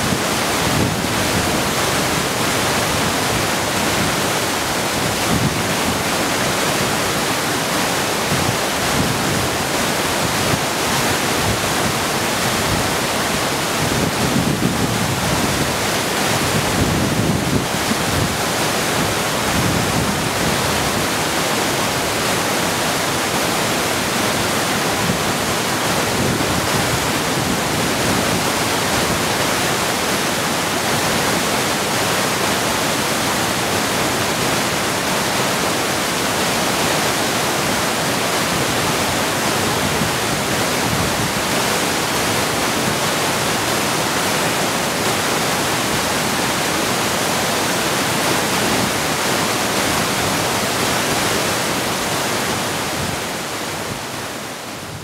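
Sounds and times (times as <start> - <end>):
creek water rushing over rocks: 0.0 - 55.0.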